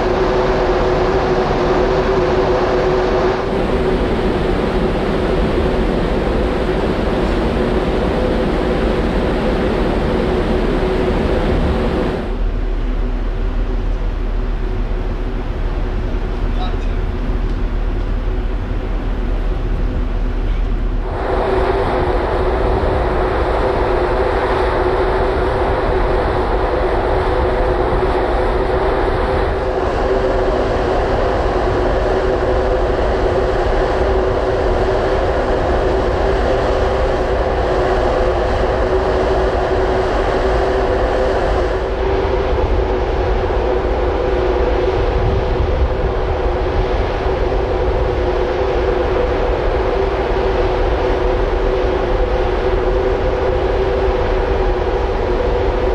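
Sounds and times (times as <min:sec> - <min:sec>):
ferry machinery drone: 0:00.0 - 0:55.9
rushing noise: 0:00.0 - 0:55.9.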